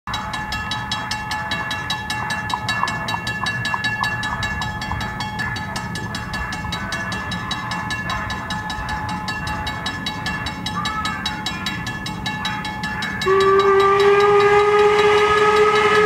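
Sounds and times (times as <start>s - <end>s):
crossing warning bell ringing: 0.1s - 16.0s.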